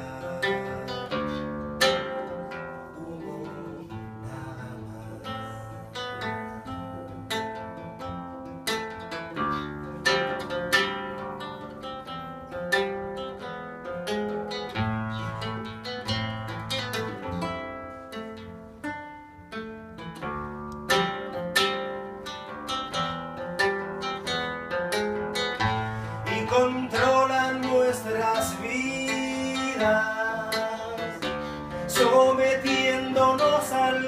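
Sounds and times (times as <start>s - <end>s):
acoustic guitar picking: 0.0s - 34.0s.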